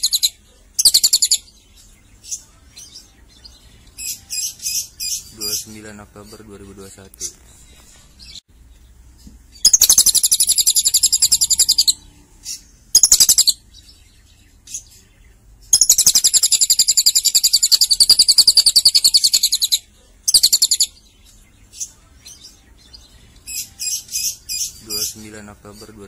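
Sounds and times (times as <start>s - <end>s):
bird high-pitched trills: 0.0s - 6.4s, 9.6s - 15.0s, 15.7s - 25.9s
bird chirps: 0.0s - 26.0s.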